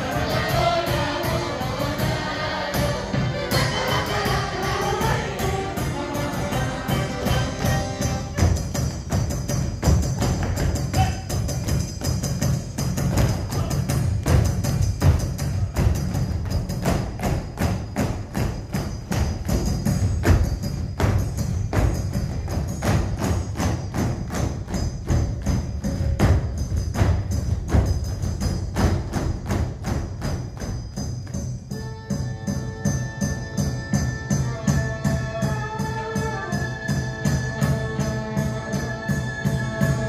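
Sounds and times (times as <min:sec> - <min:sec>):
fast folk dance music: 0:00.0 - 0:40.0.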